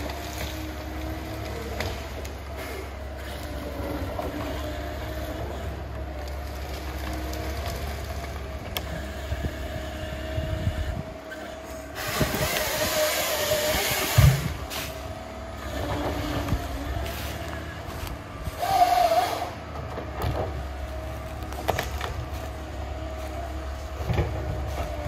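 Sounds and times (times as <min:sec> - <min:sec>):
harvester engine and hydraulic drone: 0:00.0 - 0:25.0.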